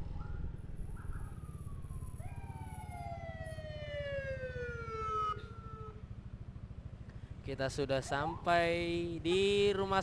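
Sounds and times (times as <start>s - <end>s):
emergency siren wailing: 0.0s - 6.4s, 7.9s - 10.0s
motorcycle engine rumble: 0.0s - 10.0s
road noise: 0.0s - 10.0s.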